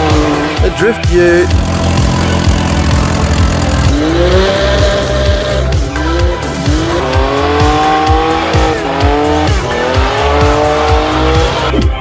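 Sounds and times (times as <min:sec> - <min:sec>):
engine at high revs: 0:00.0 - 0:00.7, 0:01.3 - 0:11.7
music with heavy bass beat: 0:00.0 - 0:12.0.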